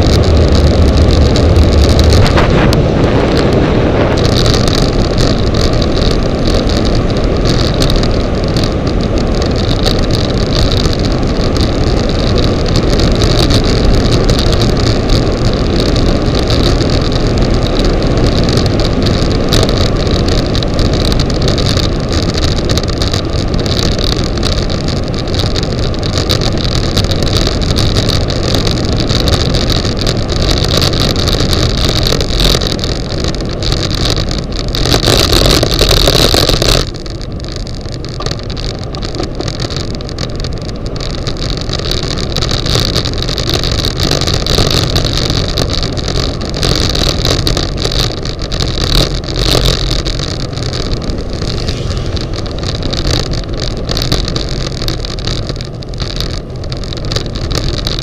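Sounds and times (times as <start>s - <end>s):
tyre and road noise: 0.0s - 58.0s
wind rushing over microphone: 0.0s - 58.0s.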